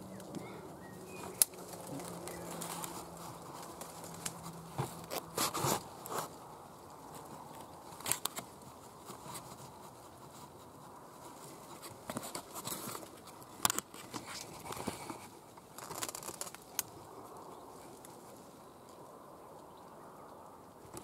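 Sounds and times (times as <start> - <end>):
twigs clicking against camera: 0.0 - 9.9, 11.2 - 18.3
leaves and twigs rustling: 0.0 - 21.0.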